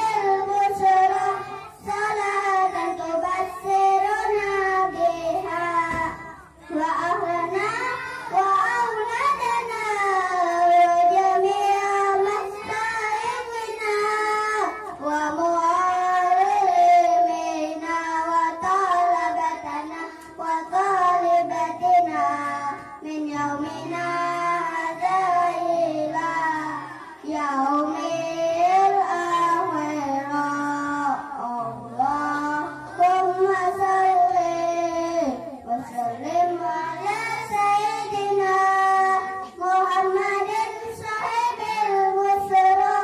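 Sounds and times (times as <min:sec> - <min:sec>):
children singing through a microphone: 0:00.0 - 0:43.0.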